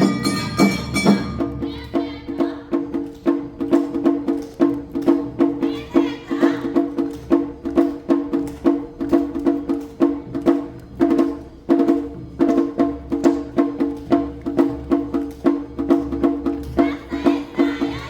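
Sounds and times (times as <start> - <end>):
festival percussion: 0.0 - 18.0.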